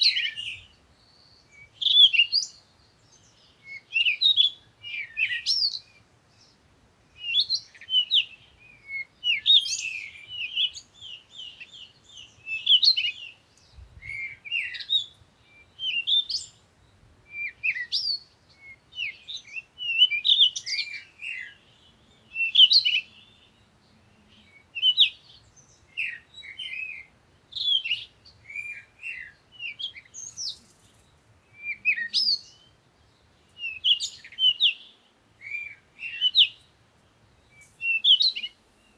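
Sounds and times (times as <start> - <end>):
small bird chirping: 0.0 - 6.6, 7.2 - 38.9.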